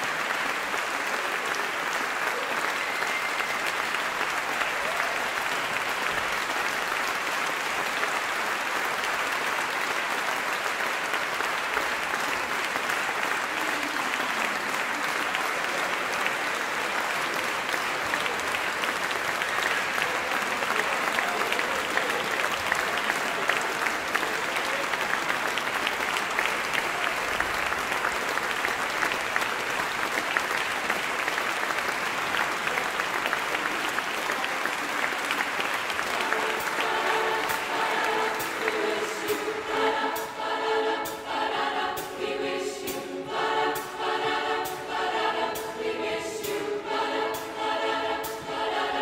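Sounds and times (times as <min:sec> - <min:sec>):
audience applauding: 0:00.0 - 0:49.0.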